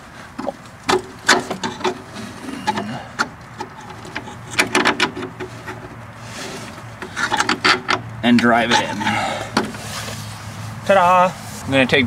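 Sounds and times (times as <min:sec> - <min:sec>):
metal bolt clicks and scrapes: 0:00.4 - 0:10.3.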